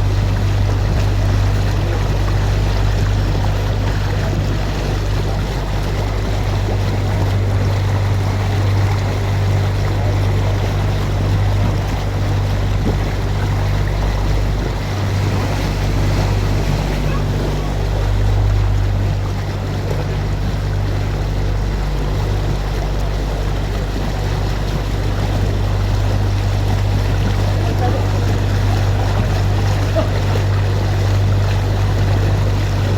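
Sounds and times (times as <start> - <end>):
boat motor humming: 0.0 - 32.9.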